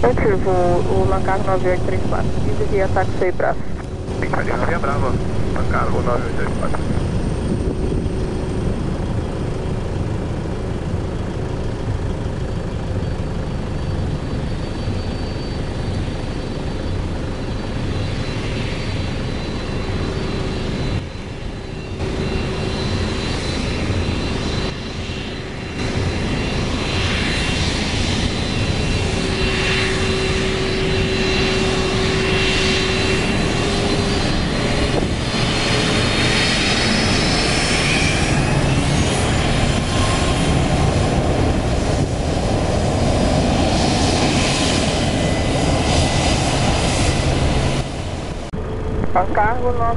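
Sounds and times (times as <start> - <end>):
jet engines rumbling and whining: 0.0 - 49.9.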